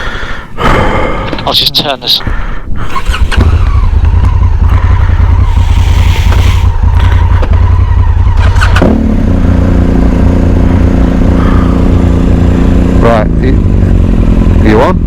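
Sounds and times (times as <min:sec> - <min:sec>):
motorcycle engine idling: 0:02.2 - 0:15.0.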